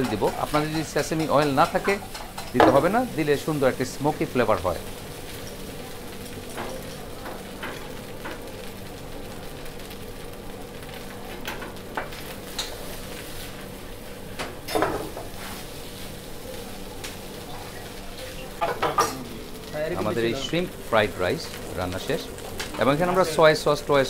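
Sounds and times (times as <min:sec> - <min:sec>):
rice sizzling in a pan: 0:00.0 - 0:24.0.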